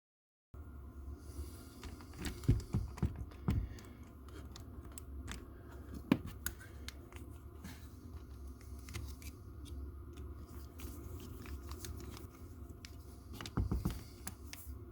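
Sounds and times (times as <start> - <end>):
low steady hum: 0.6 - 14.9.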